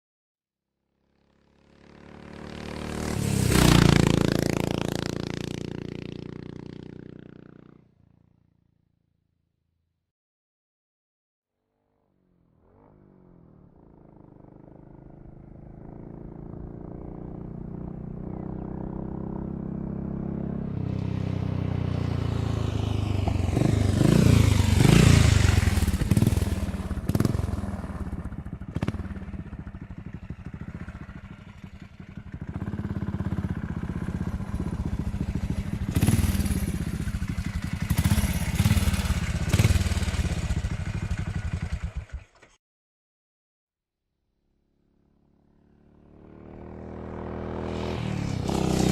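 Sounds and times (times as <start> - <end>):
motorcycle engine running: 1.0 - 9.0, 12.2 - 42.6, 44.6 - 48.9.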